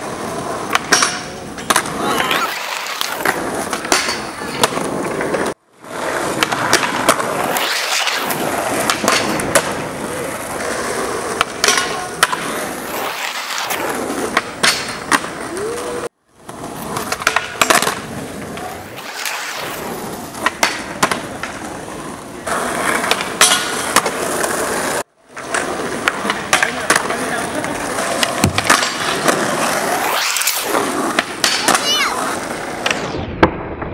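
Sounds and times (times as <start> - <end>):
skateboard clacks: 0.0 - 33.0
skateboard wheels rolling on asphalt: 0.0 - 33.9.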